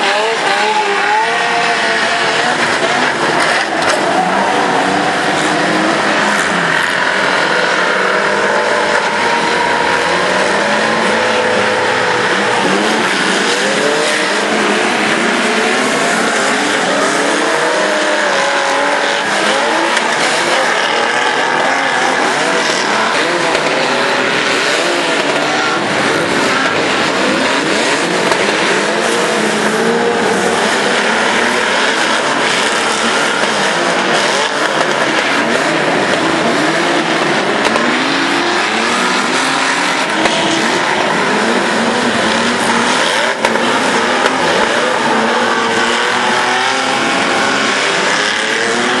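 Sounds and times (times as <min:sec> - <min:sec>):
racing car engines revving: 0:00.0 - 0:49.0.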